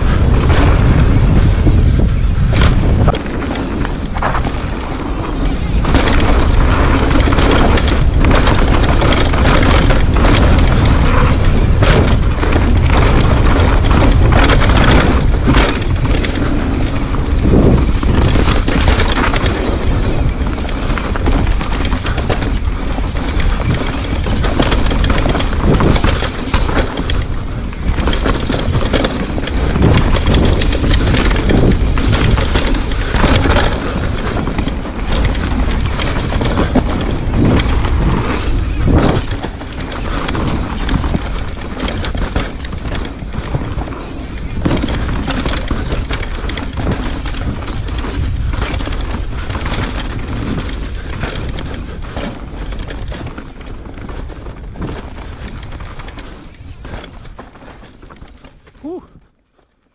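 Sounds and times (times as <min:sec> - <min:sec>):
wind buffeting microphone: 0:00.0 - 0:59.4.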